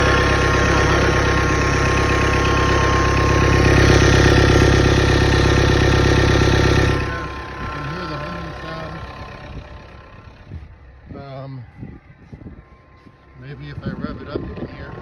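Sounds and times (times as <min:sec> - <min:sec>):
diesel car engine running: 0:00.0 - 0:15.0
thin steady whine: 0:00.0 - 0:15.0.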